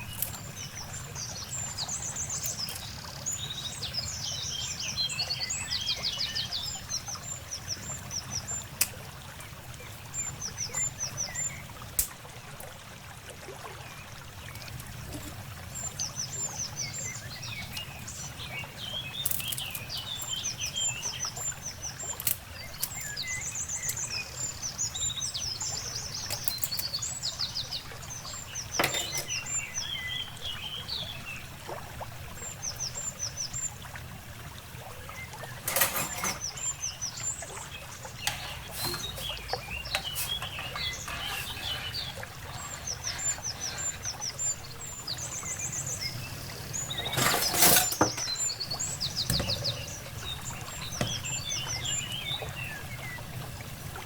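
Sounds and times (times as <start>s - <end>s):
birds chirping: 0.0s - 8.8s, 14.1s - 31.5s, 34.9s - 53.8s.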